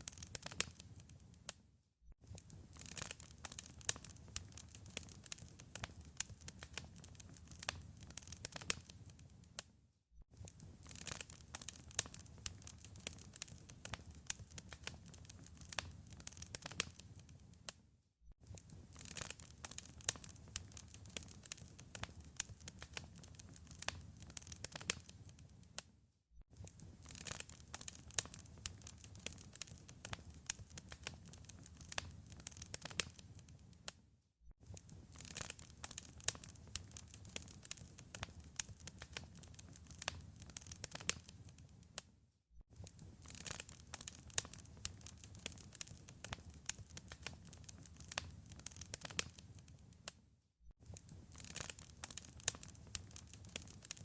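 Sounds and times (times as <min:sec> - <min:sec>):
wood fire crackling: 0:00.0 - 0:01.6, 0:02.2 - 0:09.7, 0:10.4 - 0:17.8, 0:18.5 - 0:25.8, 0:26.6 - 0:34.0, 0:34.6 - 0:42.0, 0:42.7 - 0:50.2, 0:50.8 - 0:54.0.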